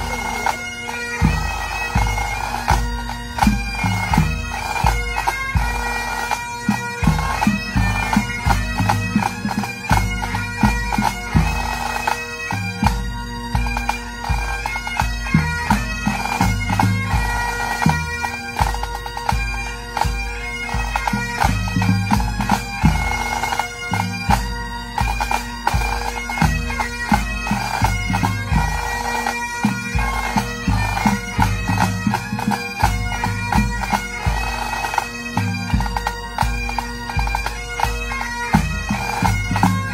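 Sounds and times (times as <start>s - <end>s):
bagpipes playing melody: 0.0s - 39.9s.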